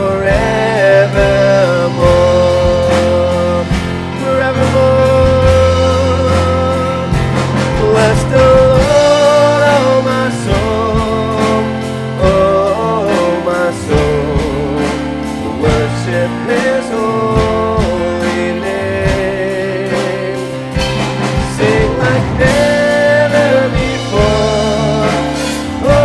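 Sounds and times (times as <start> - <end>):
acoustic guitar: 0.0 - 26.0
electric guitar: 0.0 - 26.0
keyboard: 0.0 - 26.0
voices singing: 0.0 - 26.0.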